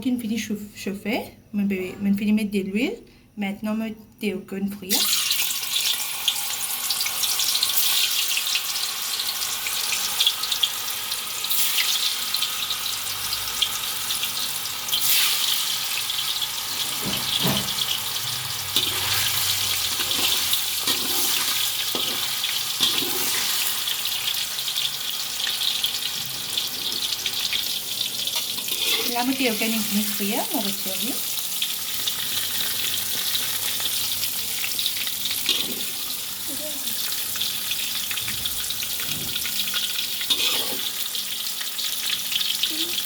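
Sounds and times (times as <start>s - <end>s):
tofu sizzling in hot oil: 4.9s - 43.0s.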